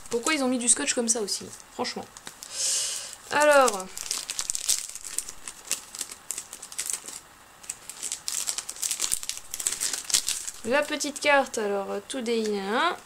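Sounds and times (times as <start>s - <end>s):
packaging crinkling: 0.0s - 11.5s.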